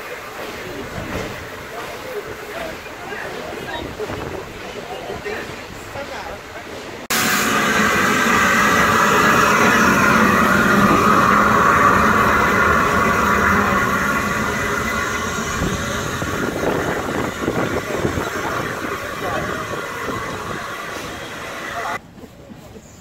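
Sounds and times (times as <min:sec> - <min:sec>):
locomotive chuffing beats: 0:00.0 - 0:22.0
steam locomotive hissing: 0:00.0 - 0:22.0.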